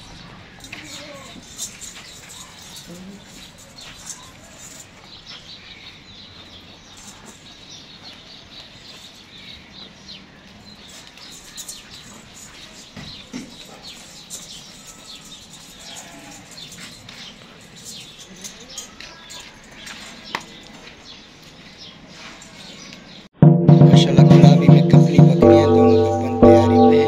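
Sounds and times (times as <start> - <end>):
small birds chirping: 0.0 - 23.3.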